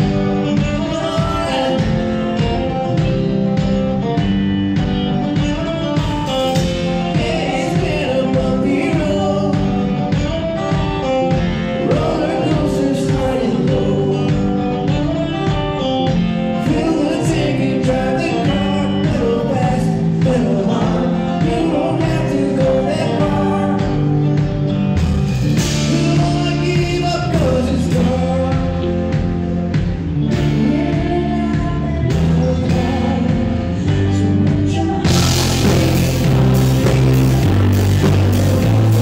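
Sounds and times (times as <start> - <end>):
person singing: 0.0 - 3.0, 6.5 - 15.8, 16.4 - 24.3, 25.6 - 29.4, 30.3 - 39.0
drums: 0.0 - 39.0
guitar: 0.0 - 39.0.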